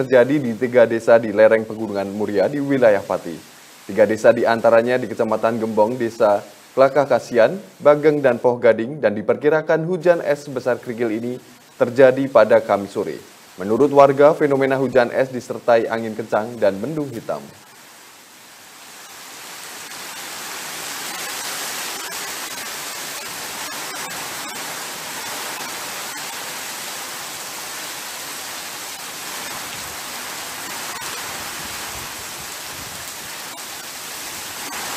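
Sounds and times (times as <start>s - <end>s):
heavy rain in strong wind: 0.0s - 8.4s, 9.9s - 34.9s.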